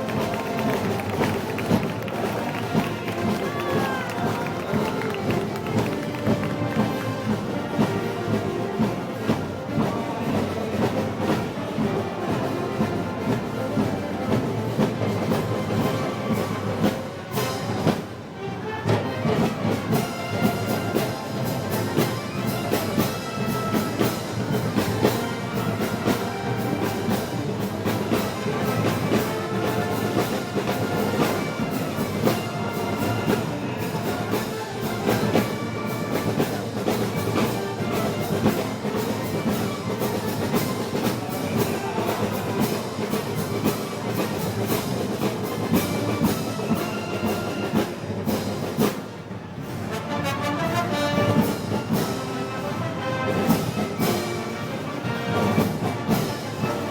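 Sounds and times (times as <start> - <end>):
brass band parade music: 0.0 - 56.9
steady drum beat: 0.0 - 56.9.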